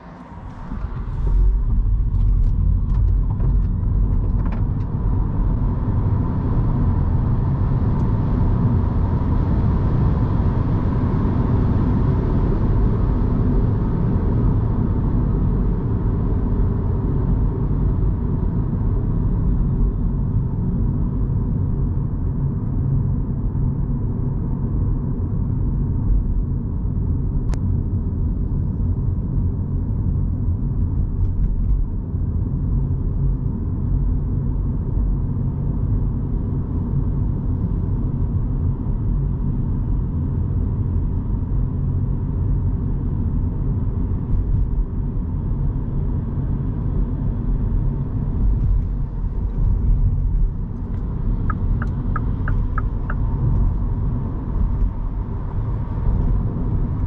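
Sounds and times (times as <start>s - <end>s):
road and tyre noise: 0.0s - 57.0s.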